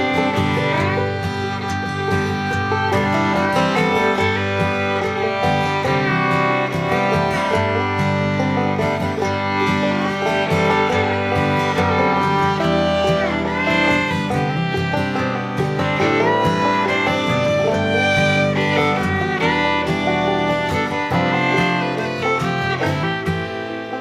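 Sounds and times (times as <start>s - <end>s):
upbeat bluegrass music: 0.0s - 24.0s.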